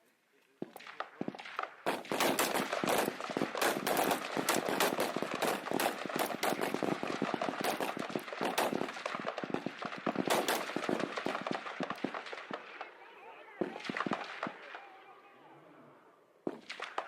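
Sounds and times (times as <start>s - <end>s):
rifles firing rapidly: 0.6s - 15.3s, 16.5s - 17.0s.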